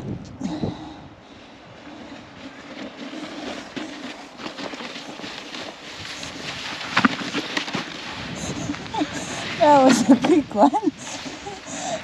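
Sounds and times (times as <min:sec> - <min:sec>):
sledge scraping over snow: 0:01.3 - 0:12.0.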